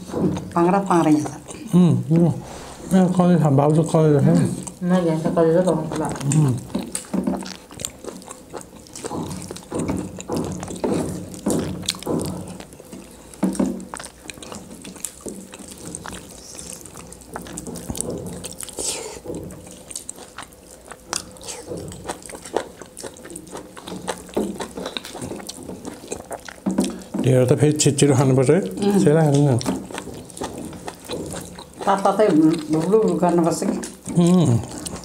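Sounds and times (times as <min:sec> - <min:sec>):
lip smacking and chewing: 0:00.0 - 0:02.2, 0:04.5 - 0:04.8, 0:05.6 - 0:27.2, 0:27.9 - 0:35.0
fingers squishing through food: 0:05.6 - 0:35.0.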